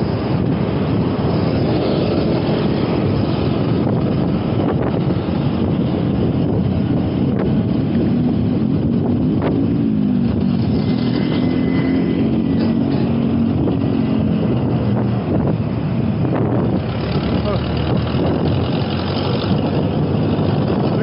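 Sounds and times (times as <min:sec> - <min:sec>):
motor vehicle engine drone: 0:00.0 - 0:21.0
wind buffeting microphone: 0:00.0 - 0:21.0.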